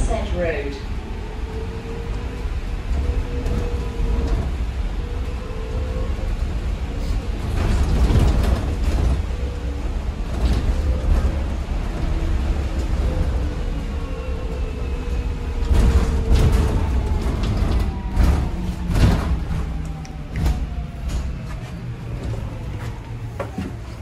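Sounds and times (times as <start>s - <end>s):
road and tyre rumble: 0.0s - 24.0s.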